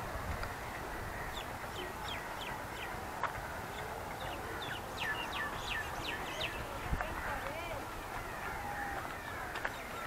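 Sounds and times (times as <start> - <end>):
steady outdoor hiss: 0.0 - 10.0
small birds chirping: 0.4 - 10.0.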